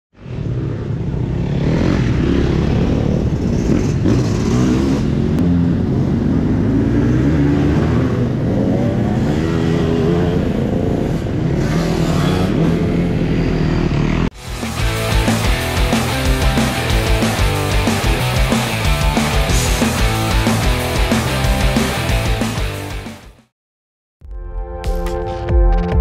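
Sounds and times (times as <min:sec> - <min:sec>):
motorcycle engines revving: 0:00.2 - 0:23.3.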